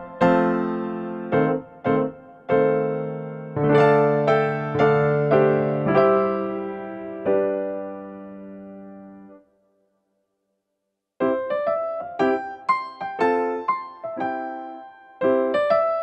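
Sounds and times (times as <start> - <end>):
electric piano music: 0.0 - 9.5, 11.2 - 16.0.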